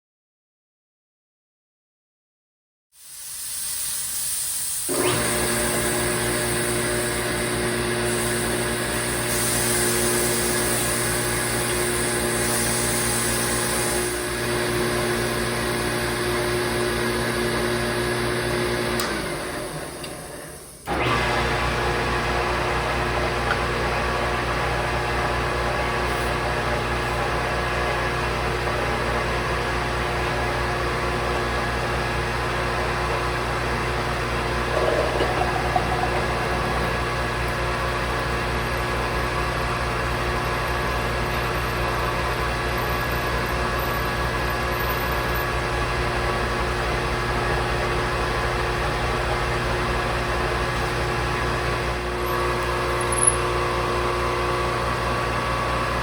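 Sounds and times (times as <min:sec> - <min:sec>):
shop machine humming: 0:04.9 - 0:56.0.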